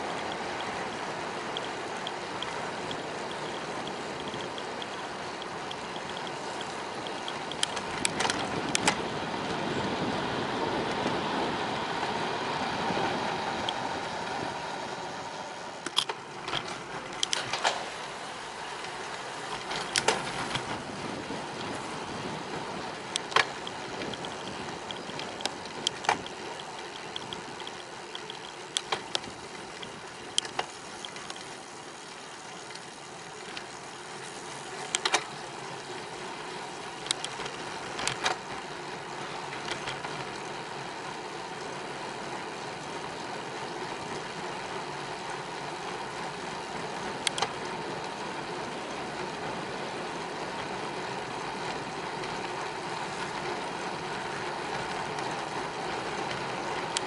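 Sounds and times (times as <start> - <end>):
bicycle clicks and rattles: 0.0 - 57.0
wind and tyre noise: 0.0 - 57.0.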